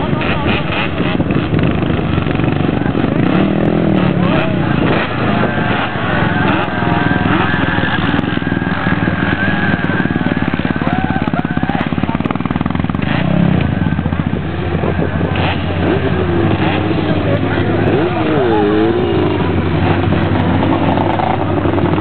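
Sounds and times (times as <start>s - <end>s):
quad engines revving: 0.0s - 22.0s.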